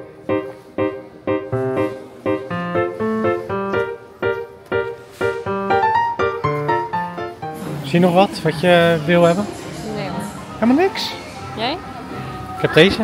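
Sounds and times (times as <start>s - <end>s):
piano playing: 0.0s - 13.0s.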